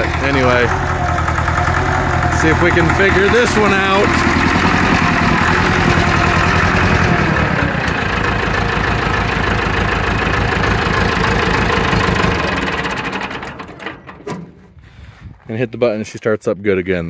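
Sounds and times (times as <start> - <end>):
diesel engine running rough: 0.0 - 15.2.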